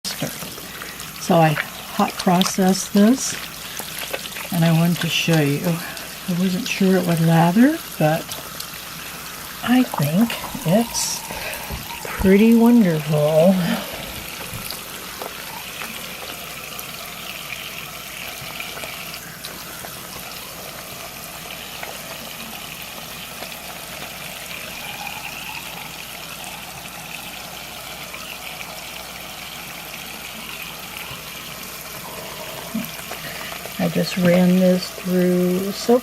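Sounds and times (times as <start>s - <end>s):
tap water running into sink: 0.0s - 36.0s
soap lathering in wet hands: 0.1s - 35.1s.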